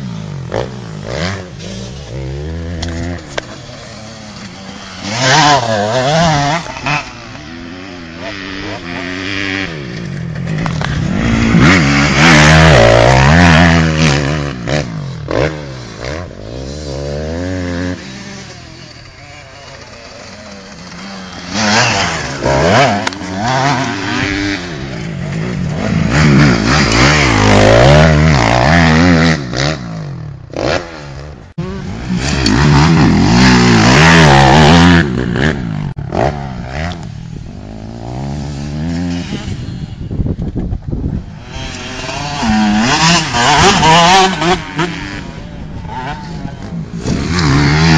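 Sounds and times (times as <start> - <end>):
motocross bike revving: 0.0 - 47.9.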